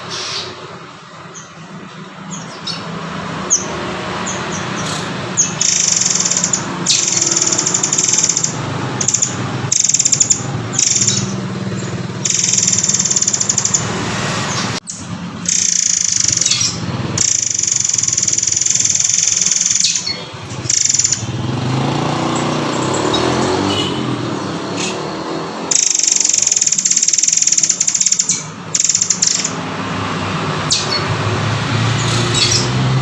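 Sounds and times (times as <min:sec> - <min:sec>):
bird sharp chirps: 0:02.3 - 0:29.7, 0:30.6 - 0:32.8
bird rattling trills: 0:02.4 - 0:14.8, 0:15.4 - 0:23.7, 0:24.5 - 0:32.8.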